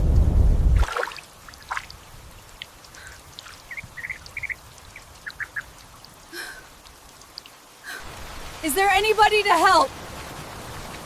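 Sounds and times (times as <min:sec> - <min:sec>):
rain falling and dripping: 0:00.0 - 0:11.0.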